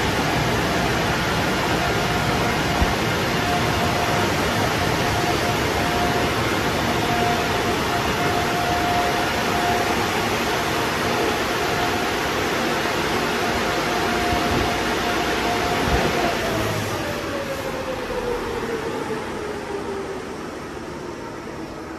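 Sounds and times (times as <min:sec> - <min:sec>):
blower fan whine: 0:00.0 - 0:21.0.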